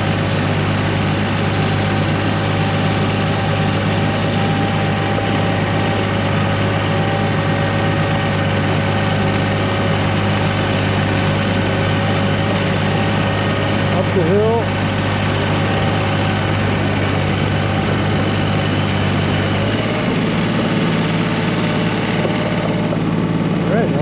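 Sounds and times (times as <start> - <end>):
faint steady whine: 0.0 - 24.0
tractor diesel engine running: 0.0 - 24.0.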